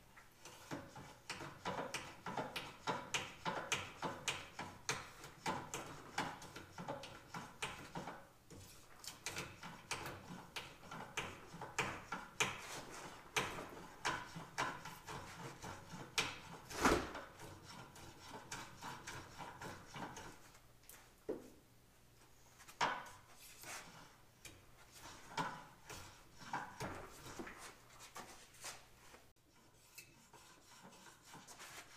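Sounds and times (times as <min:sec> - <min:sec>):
hand tool scraping wood: 0:00.3 - 0:20.6, 0:22.6 - 0:31.9.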